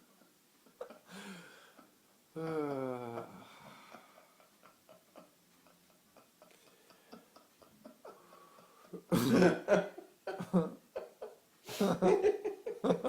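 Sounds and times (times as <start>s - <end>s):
man laughing: 2.4s - 13.0s.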